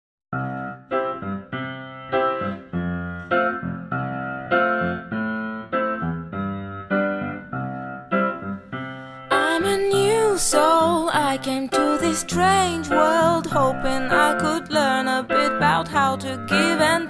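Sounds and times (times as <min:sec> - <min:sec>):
piano-like keyboard chords: 0:00.3 - 0:17.0.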